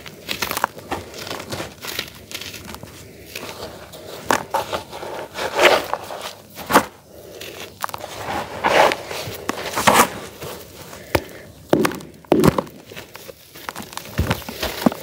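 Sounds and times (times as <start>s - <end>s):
hands squishing wet charcoal paste: 0.0s - 15.0s.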